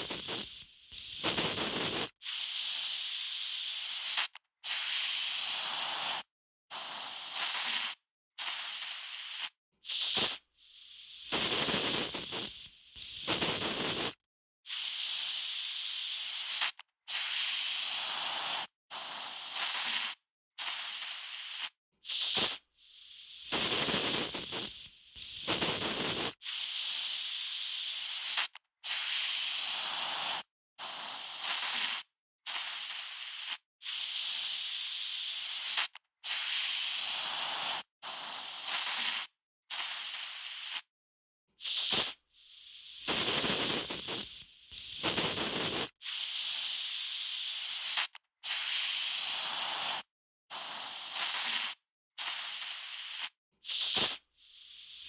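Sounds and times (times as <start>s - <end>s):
aerosol spray can hissing: 0.0s - 40.9s, 41.6s - 55.0s.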